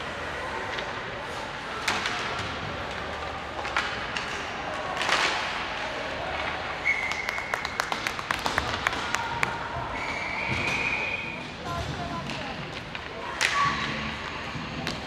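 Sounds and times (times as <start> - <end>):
hockey sticks and puck knocking: 1.7 - 15.0.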